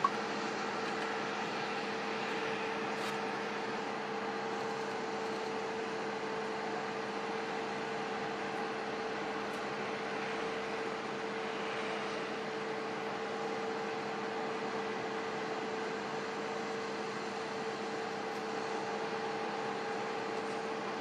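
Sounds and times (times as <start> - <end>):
droning engine hum: 0.0 - 21.0.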